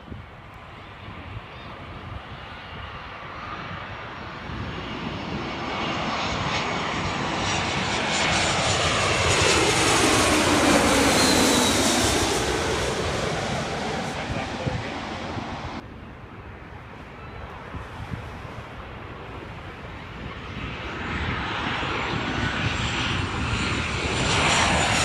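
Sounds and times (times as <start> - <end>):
jet airliner passing overhead: 0.0 - 25.0.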